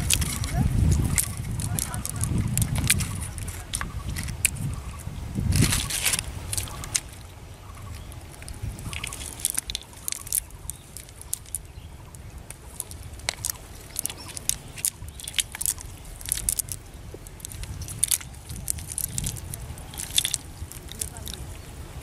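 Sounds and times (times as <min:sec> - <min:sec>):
crackles and squelches of wet net: 0:00.0 - 0:22.0.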